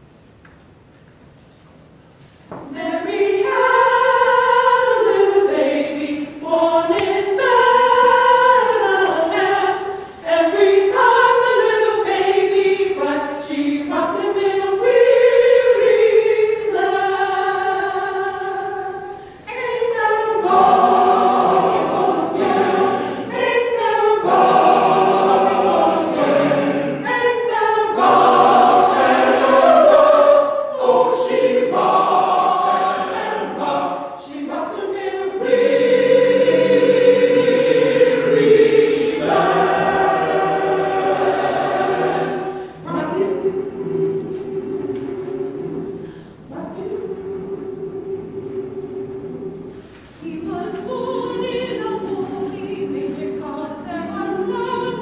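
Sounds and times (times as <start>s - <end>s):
church choir singing: 2.6s - 55.0s.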